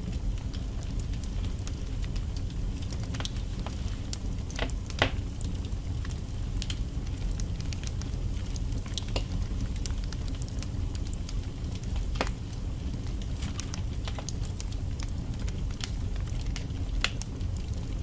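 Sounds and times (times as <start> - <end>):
wood fire burning: 0.0 - 18.0.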